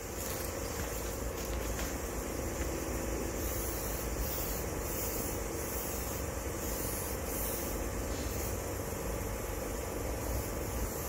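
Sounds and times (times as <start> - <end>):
low machine hum: 0.0 - 11.0
spray paint hissing: 0.0 - 11.0.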